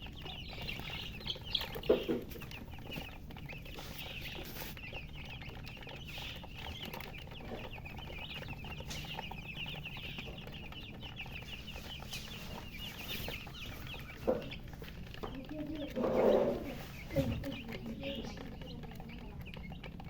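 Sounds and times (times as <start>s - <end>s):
baby chicks peeping: 0.0s - 20.0s.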